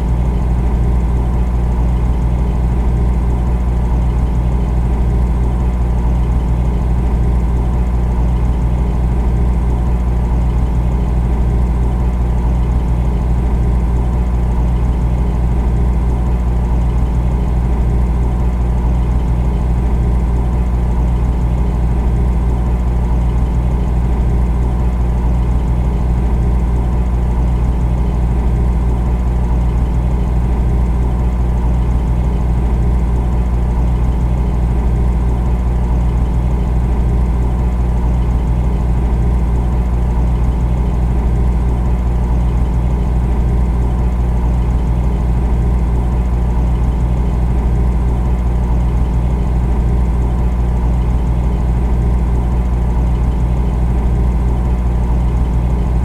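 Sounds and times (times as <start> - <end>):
refrigerator humming: 0.0 - 56.0.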